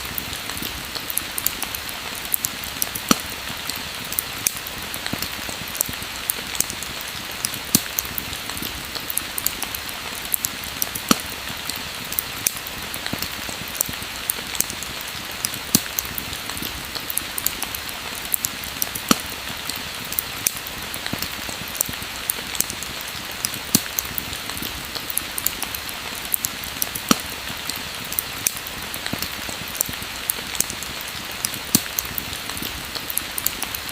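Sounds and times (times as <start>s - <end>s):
fire crackling and popping: 0.0s - 33.9s
pouring rain: 0.0s - 33.9s.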